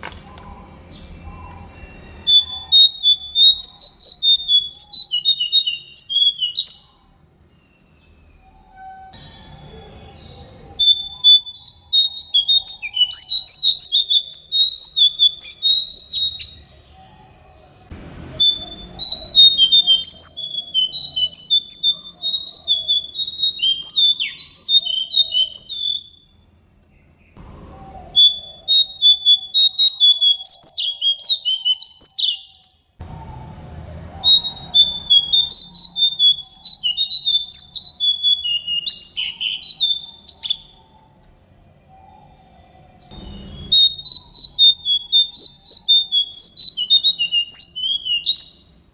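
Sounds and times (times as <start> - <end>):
songbird chirping and trilling: 0.0 - 48.9.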